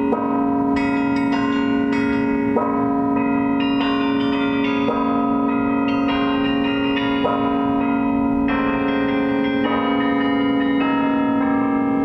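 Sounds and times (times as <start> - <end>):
tower bells playing a tune: 0.0 - 12.0.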